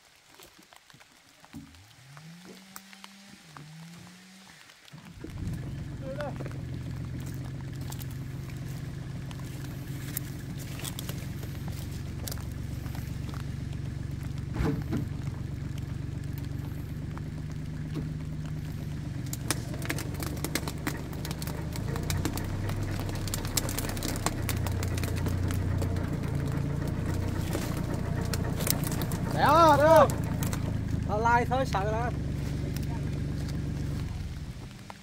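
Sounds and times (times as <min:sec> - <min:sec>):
tractor engine running: 0:01.5 - 0:35.0.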